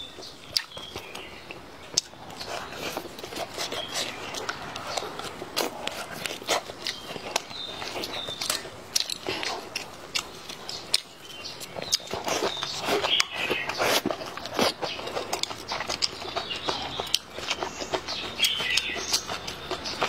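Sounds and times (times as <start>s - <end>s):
close chewing and lip-smacking: 0.0s - 20.0s.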